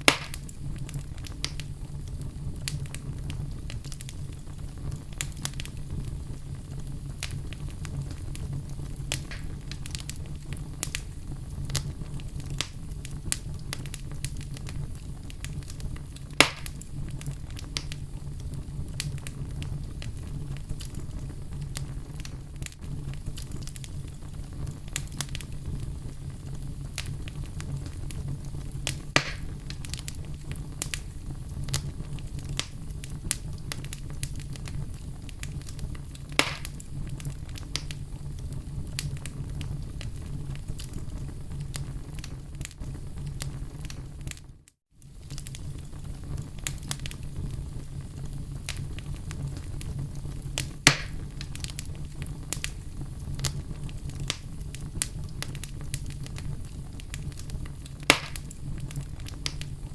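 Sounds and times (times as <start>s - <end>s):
fire flames rumbling: 0.0s - 59.9s
logs crackling and popping: 0.0s - 59.9s.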